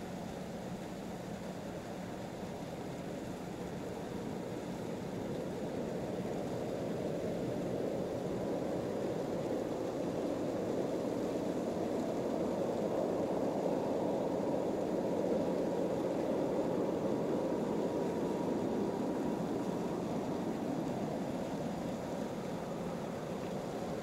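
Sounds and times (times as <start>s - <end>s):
jet engine low rushing: 3.7s - 24.0s.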